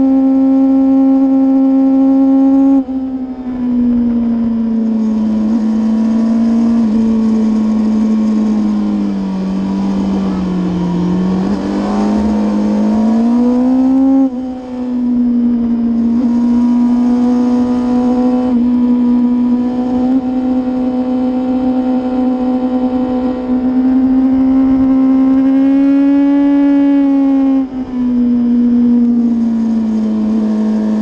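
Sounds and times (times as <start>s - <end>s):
race motorcycle engine revving: 3.8s - 31.0s.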